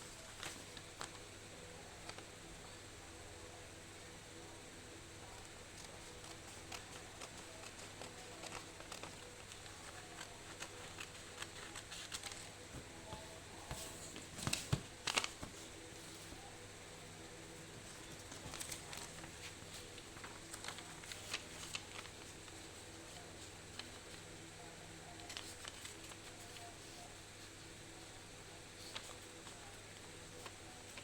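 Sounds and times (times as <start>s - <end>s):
paper rustling and folding: 0.0s - 1.3s, 5.2s - 31.0s.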